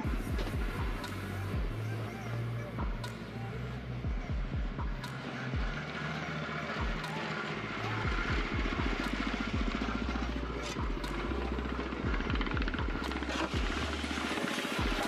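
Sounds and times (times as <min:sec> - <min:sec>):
cement mixer running: 0:00.0 - 0:15.0.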